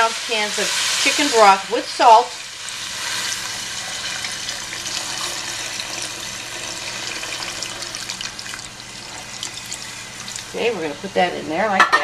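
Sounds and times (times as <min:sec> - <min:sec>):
broth pouring into a metal pot: 0:00.9 - 0:10.6.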